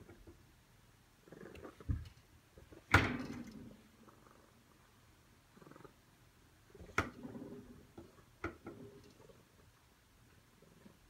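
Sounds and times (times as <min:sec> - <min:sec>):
cat purring: 0:01.2 - 0:11.0.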